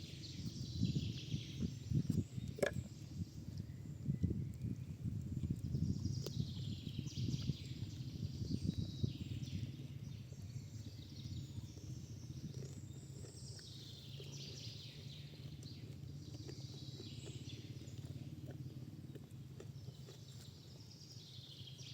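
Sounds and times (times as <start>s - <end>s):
low steady rumble: 0.0s - 21.9s.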